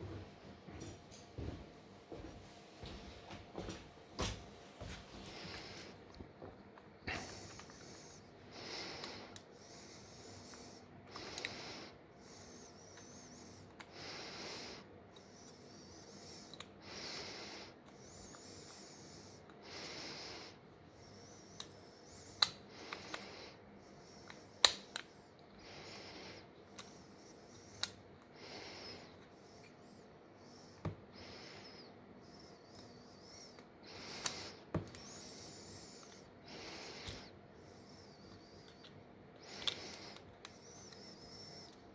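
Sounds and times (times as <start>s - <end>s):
person breathing: 3.6s - 6.1s, 7.0s - 24.3s, 25.6s - 41.7s.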